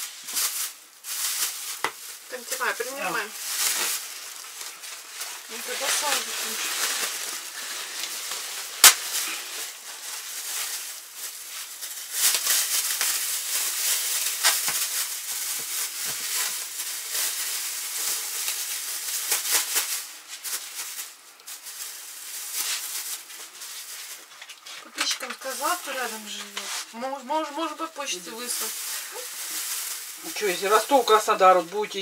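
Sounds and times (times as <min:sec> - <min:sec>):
plastic bags rustling and crinkling: 0:00.0 - 0:32.0.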